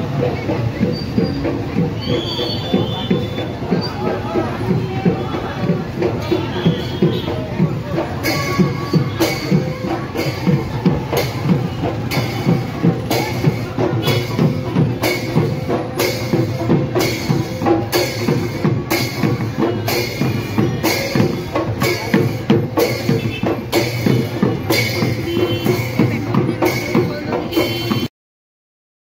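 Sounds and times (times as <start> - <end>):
dhol drumming: 0.0 - 28.1.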